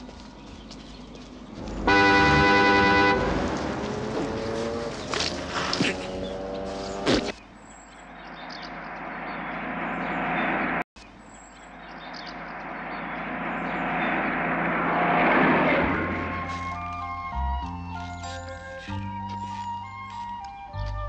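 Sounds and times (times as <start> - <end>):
lorry engine and tyre noise: 0.0 - 21.0.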